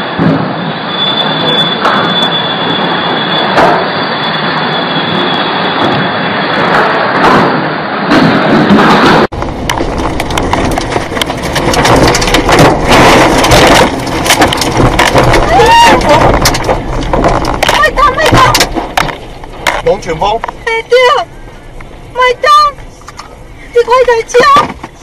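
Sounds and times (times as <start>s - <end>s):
debris striking vehicle: 0.0s - 21.1s
tornado wind roar: 0.0s - 25.0s.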